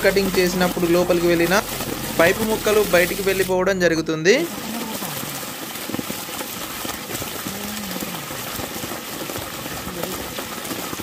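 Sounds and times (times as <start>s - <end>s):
water gushing and splashing: 0.0s - 3.6s, 4.3s - 11.0s.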